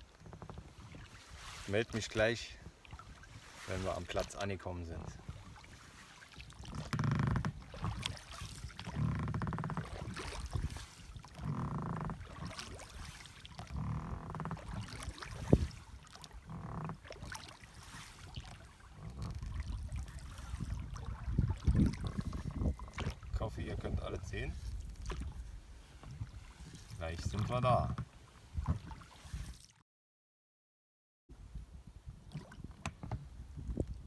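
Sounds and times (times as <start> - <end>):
oars swishing through water: 0.0 - 29.8, 32.1 - 34.0.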